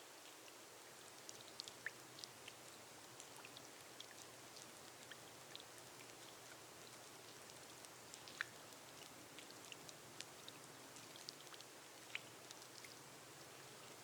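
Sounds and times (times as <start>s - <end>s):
rain hissing on a glass roof: 0.0s - 14.0s.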